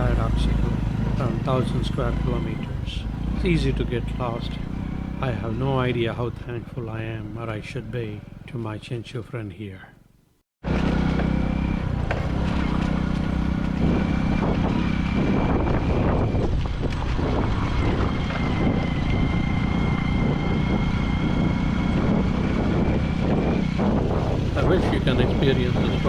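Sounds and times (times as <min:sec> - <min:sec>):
motorcycle engine running: 0:00.0 - 0:08.6, 0:10.6 - 0:26.0.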